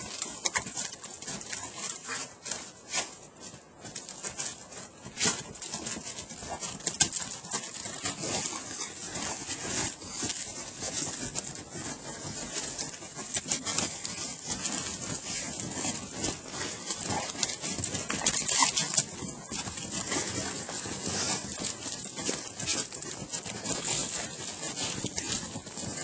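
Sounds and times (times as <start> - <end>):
dog paws in snow: 0.0 - 26.0.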